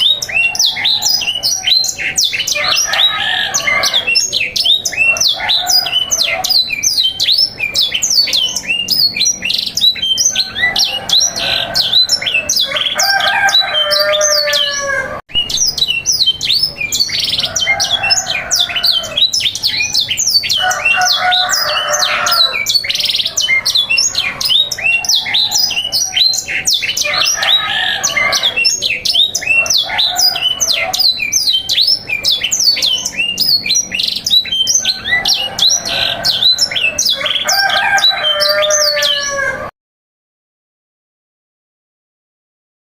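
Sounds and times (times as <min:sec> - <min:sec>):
canaries singing: 0:00.0 - 0:39.7.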